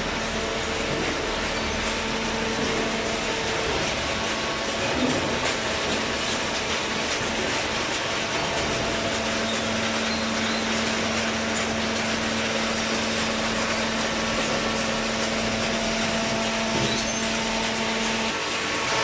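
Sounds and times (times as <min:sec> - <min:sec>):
hydraulic baler running: 0:00.0 - 0:19.0.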